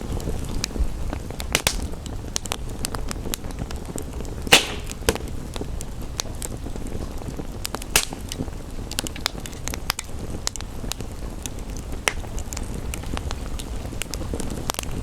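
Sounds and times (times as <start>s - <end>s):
rain hissing: 0.0s - 15.0s
wood fire crackling and popping: 0.0s - 15.0s.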